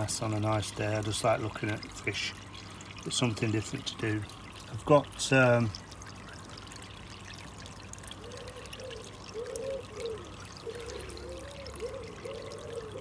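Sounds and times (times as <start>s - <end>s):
water trickling and pouring: 0.0s - 13.0s.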